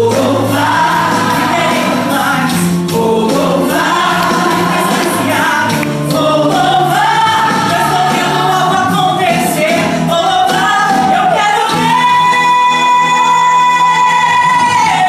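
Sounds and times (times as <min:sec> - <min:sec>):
backing music: 0:00.0 - 0:15.0
woman singing gospel song: 0:00.0 - 0:15.0.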